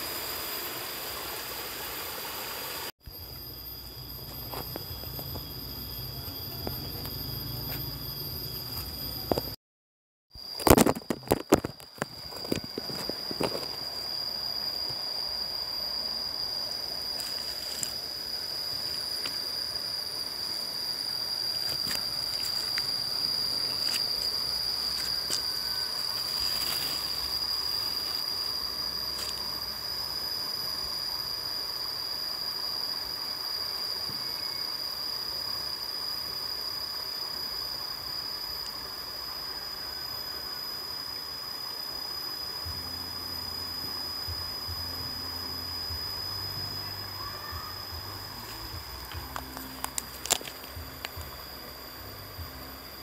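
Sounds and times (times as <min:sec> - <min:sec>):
high-pitched insect drone: 0:00.0 - 0:09.6, 0:10.3 - 0:53.0.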